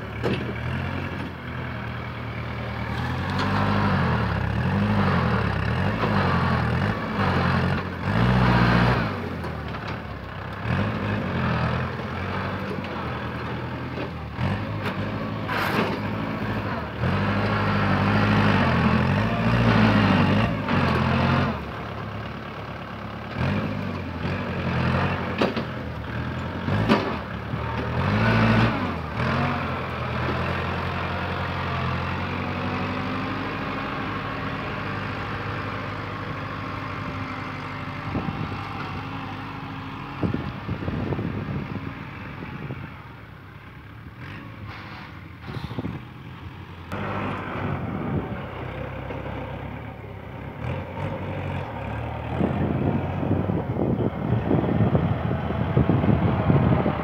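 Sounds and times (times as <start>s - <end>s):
tractor diesel engine plowing: 0.0s - 57.0s.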